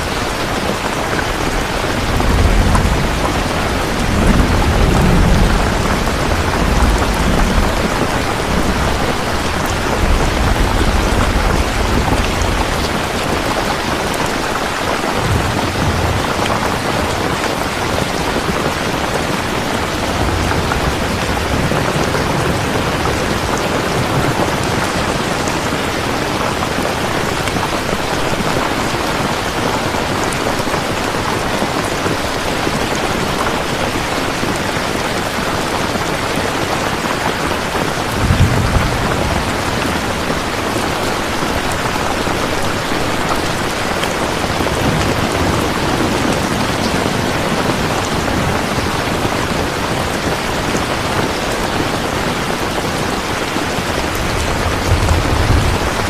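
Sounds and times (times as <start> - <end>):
heavy rain falling: 0.0 - 56.0
low thunder rumbling: 0.0 - 56.0.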